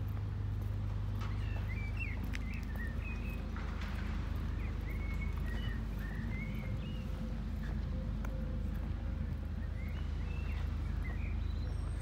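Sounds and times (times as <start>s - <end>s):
light footsteps: 0.0s - 12.0s
steady low rumble: 0.0s - 12.0s.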